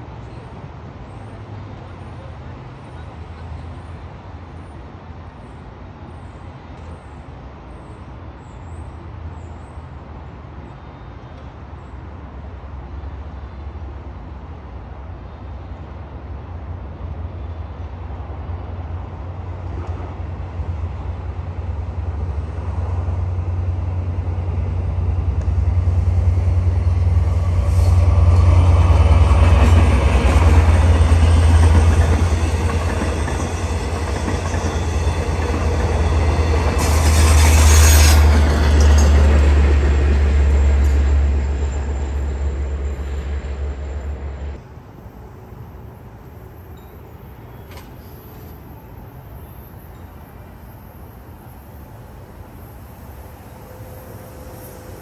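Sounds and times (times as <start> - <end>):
diesel train passing rumble: 0.0 - 55.0.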